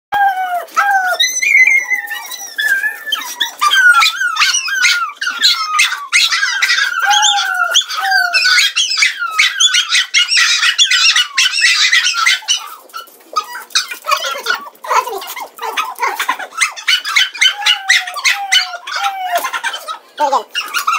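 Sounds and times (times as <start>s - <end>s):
small dogs yapping: 0.2s - 20.9s.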